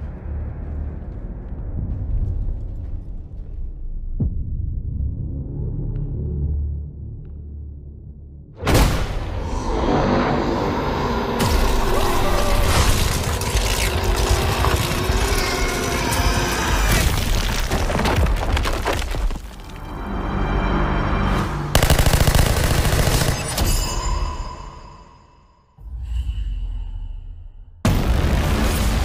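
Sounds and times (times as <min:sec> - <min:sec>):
dramatic trailer music: 0:00.0 - 0:17.3, 0:19.5 - 0:29.0.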